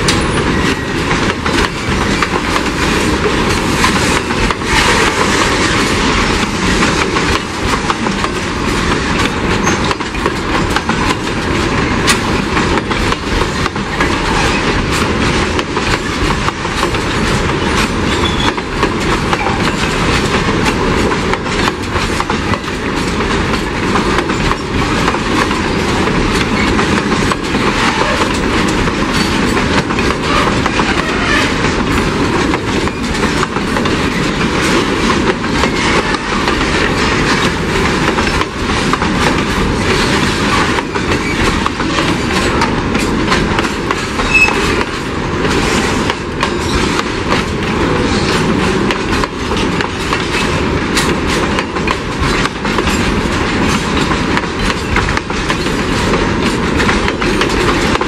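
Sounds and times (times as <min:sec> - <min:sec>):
freight wagons rumbling and rattling: 0:00.0 - 0:58.0
wheels clicking over rail joints: 0:00.0 - 0:58.0.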